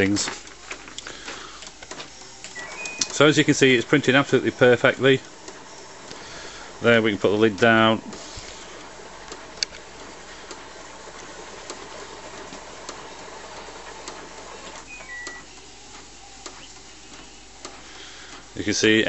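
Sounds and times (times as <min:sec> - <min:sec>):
inkjet printer whirring: 0:00.0 - 0:19.0.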